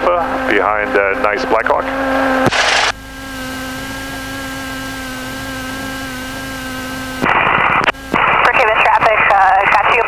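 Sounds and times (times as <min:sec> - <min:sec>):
aircraft engine idling hum: 0:00.0 - 0:10.0.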